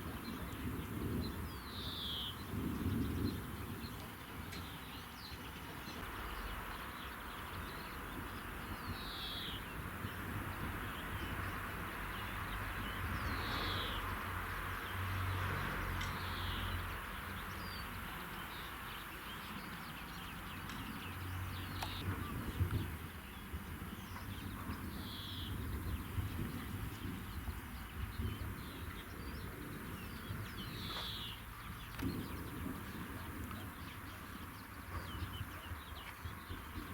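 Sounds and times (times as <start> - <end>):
outdoor background noise: 0.0 - 36.9.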